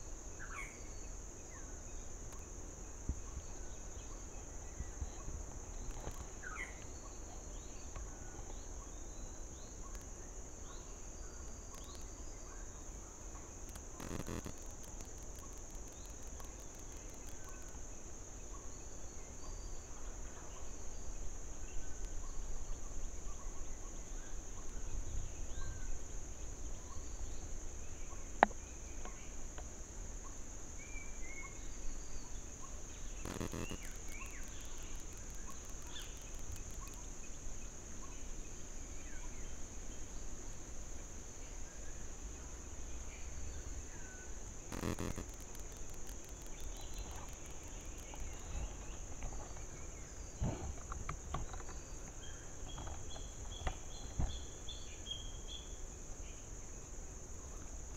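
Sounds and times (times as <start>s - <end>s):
insect drone: 0.0s - 57.9s.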